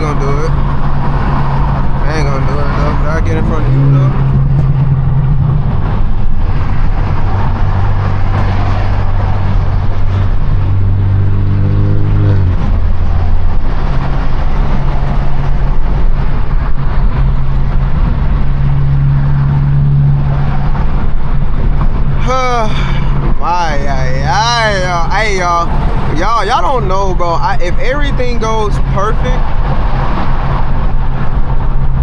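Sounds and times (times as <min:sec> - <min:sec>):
car exhaust droning: 0:00.0 - 0:32.0.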